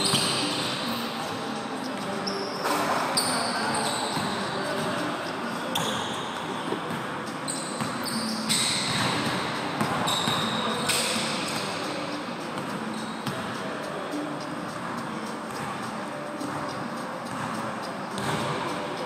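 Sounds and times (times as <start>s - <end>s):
sneakers squeaking: 0.0s - 19.0s.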